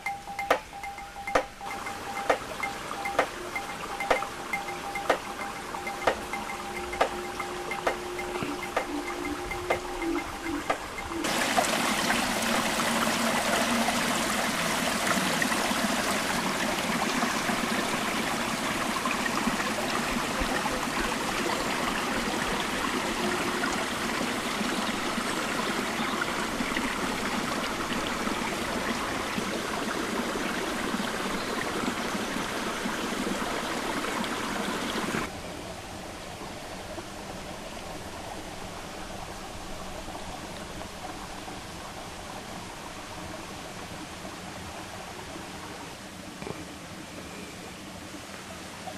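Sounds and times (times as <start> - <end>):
stream running: 0.0 - 48.9.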